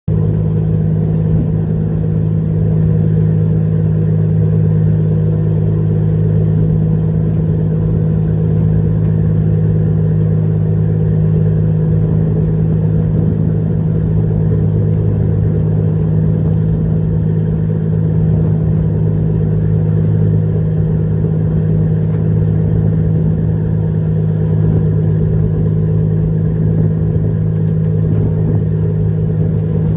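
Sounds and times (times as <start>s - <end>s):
boat engine low drone: 0.1s - 29.9s.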